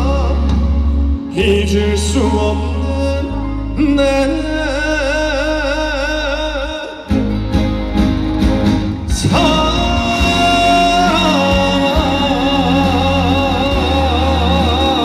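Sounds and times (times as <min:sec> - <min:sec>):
man singing long held notes: 0:00.0 - 0:07.3, 0:09.1 - 0:15.0
live band playing: 0:00.0 - 0:15.0.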